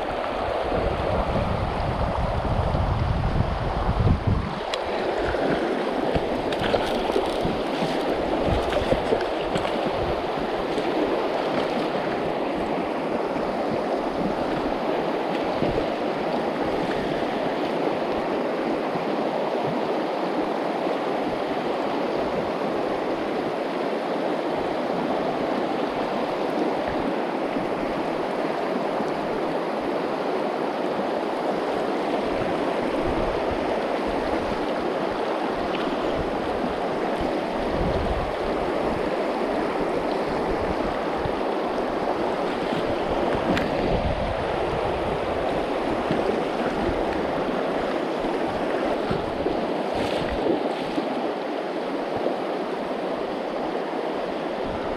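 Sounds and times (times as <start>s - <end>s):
river rushing: 0.0s - 54.9s.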